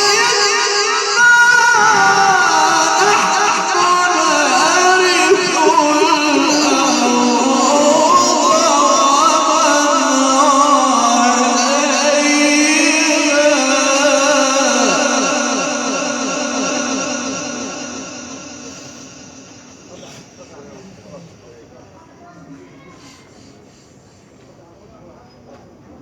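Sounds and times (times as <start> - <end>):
man reciting melodically: 0.0 - 21.2
sound system echo: 0.0 - 21.3.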